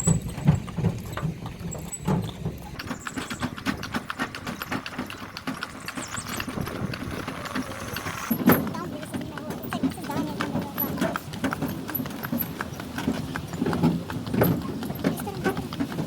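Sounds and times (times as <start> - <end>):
horse hooves clip-clopping: 0.0 - 16.0.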